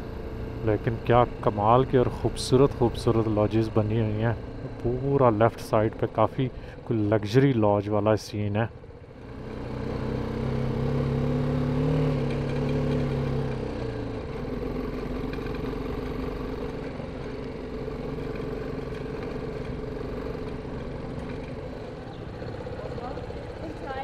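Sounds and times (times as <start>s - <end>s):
motorcycle engine running: 0.0s - 7.6s, 8.7s - 24.0s.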